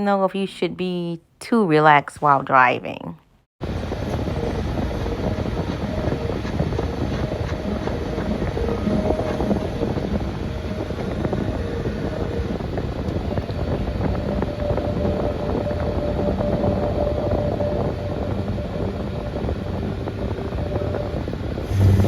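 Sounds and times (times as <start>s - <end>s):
fireplace crackling over speakers: 3.6s - 22.0s.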